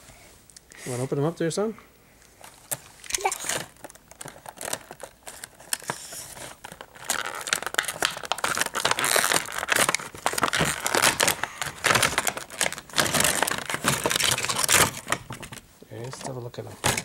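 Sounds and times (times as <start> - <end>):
plastic blister pack crinkling: 2.4 - 17.0.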